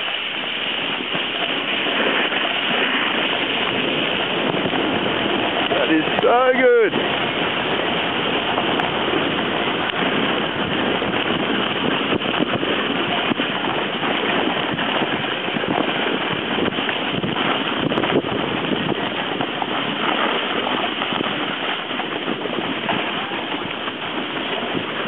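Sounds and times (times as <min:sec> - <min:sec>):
sliding over packed snow: 0:00.0 - 0:25.0
wind buffeting microphone: 0:00.0 - 0:25.0.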